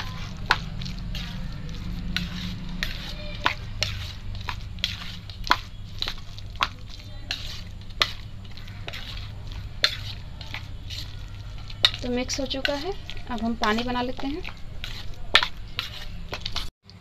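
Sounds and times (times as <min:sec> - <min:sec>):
metal spoon clinking in steel bowl: 0:00.0 - 0:16.7.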